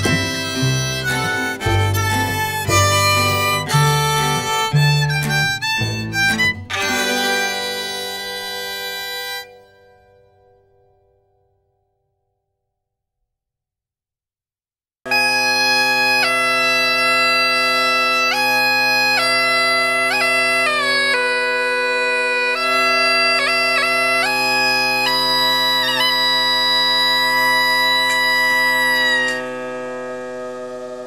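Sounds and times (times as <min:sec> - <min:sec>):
bagpipes playing a tune: 0:00.0 - 0:10.0, 0:15.1 - 0:31.0
bagpipe drones: 0:00.0 - 0:10.3, 0:15.1 - 0:31.0.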